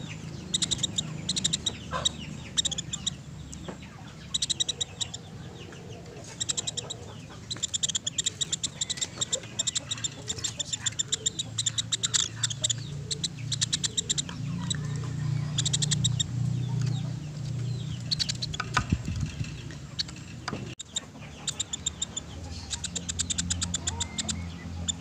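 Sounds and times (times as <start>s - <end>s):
woodpecker calling: 0.0s - 25.0s.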